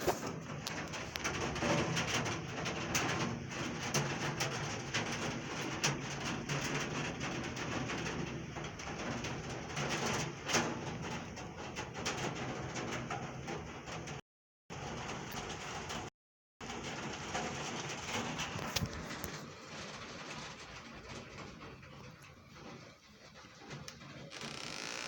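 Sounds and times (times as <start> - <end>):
raindrops striking hard surface: 0.0 - 25.0.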